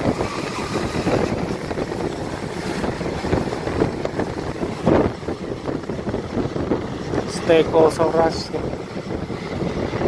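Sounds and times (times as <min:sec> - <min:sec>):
train running gear rumble: 0:00.0 - 0:10.0
wheels clattering on rails: 0:00.0 - 0:10.0
wind blowing over microphone: 0:00.0 - 0:10.0.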